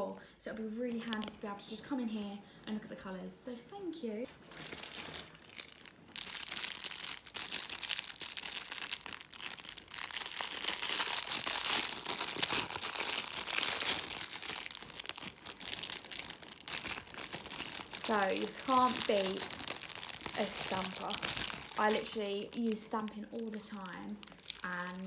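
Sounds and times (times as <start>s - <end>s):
plastic bag crinkling: 0.9s - 1.4s, 4.3s - 25.0s.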